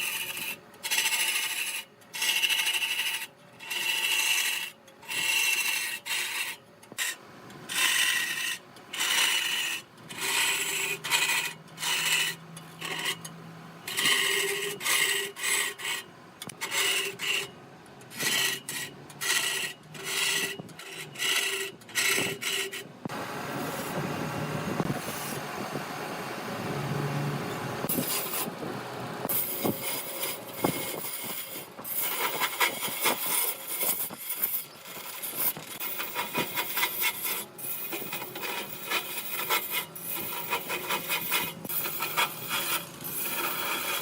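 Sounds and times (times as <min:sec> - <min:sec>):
tool rasping on spinning wood: 0:00.0 - 0:22.9, 0:27.8 - 0:44.0.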